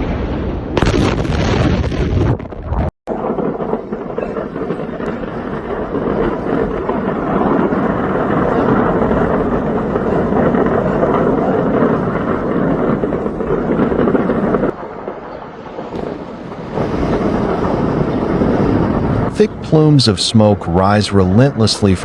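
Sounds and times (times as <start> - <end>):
roar of large fire: 0.0 - 20.1.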